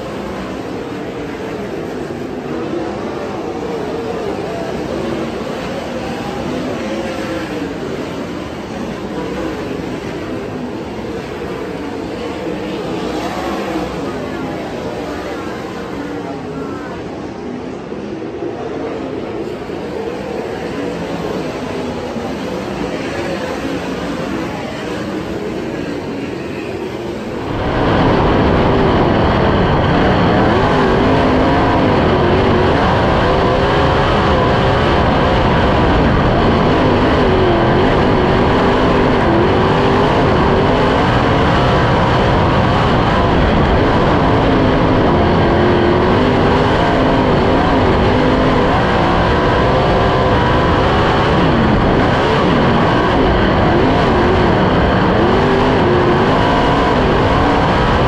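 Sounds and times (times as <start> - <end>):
race car engine: 0.0 - 58.0
wind and track noise: 0.0 - 58.0.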